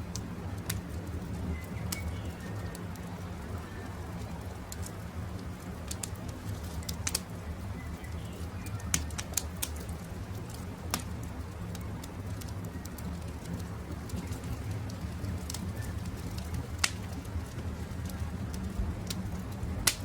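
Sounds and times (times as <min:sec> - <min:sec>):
campfire crackling and popping: 0:00.0 - 0:20.0
steady low rumble: 0:00.0 - 0:20.0.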